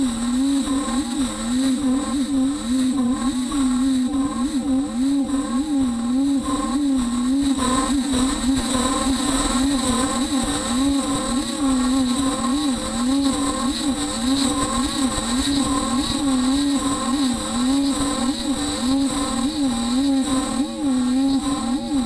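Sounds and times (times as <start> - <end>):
router milling metal whine: 0.0 - 22.0
thin high whine: 0.0 - 22.0.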